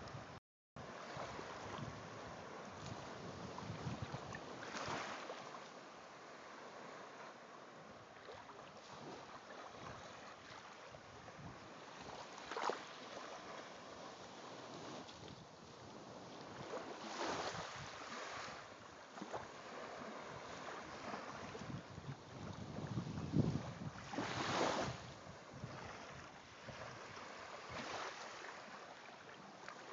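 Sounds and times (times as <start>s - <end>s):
wind on microphone: 0.0s - 5.2s, 8.8s - 28.5s
small waves washing on sand: 0.0s - 29.9s.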